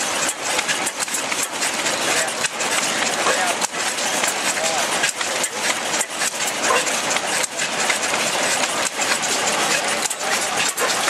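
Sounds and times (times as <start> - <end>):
oil engine clattering: 0.0 - 11.0.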